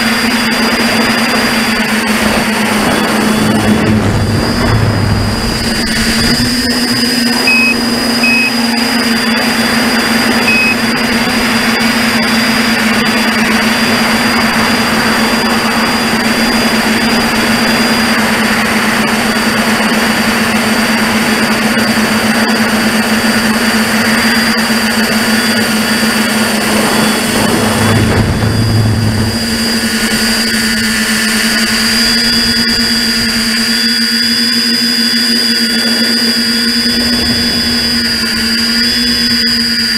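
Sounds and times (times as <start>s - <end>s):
electric motors and propellers whirring: 0.0s - 39.9s
rush of air noise: 0.0s - 39.9s.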